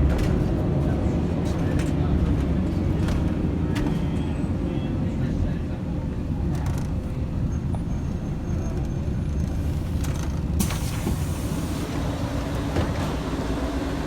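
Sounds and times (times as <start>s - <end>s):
diesel bus engine running: 0.0s - 14.0s.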